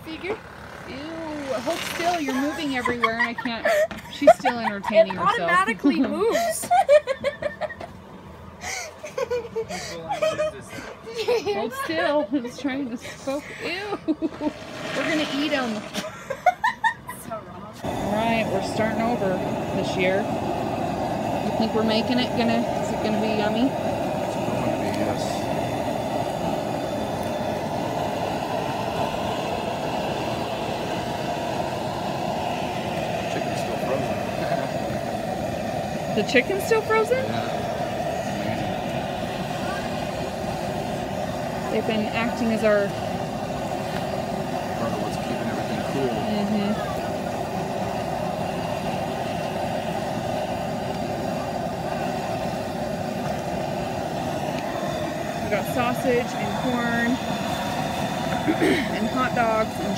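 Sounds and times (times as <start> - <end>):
water boiling: 0.0 - 5.7, 14.3 - 16.2, 17.8 - 59.9
gas burner rushing: 0.0 - 59.9.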